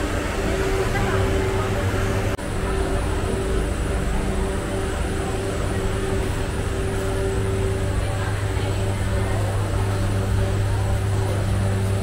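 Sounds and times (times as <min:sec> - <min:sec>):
indistinct voices: 0:00.0 - 0:12.0
low mechanical hum: 0:00.0 - 0:12.0.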